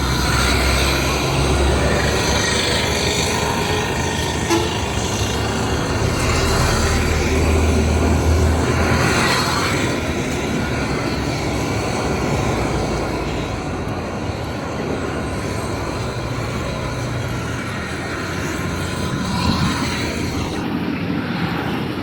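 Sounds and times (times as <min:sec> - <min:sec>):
heavy vehicle engine rumble: 0:00.0 - 0:20.7
passing road traffic: 0:00.0 - 0:22.0.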